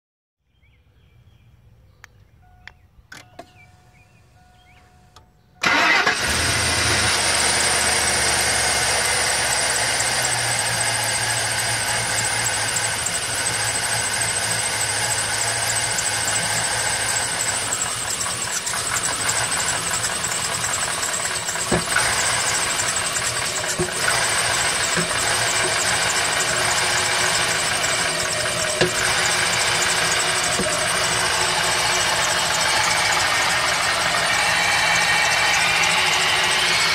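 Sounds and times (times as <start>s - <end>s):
car engine starting and idling: 2.4s - 36.9s.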